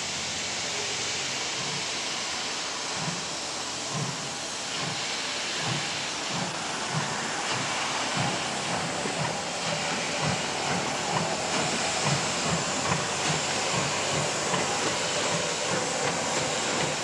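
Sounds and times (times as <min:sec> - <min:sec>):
steady steam hiss: 0:00.0 - 0:17.0
steam locomotive exhaust chuffs: 0:00.0 - 0:17.0.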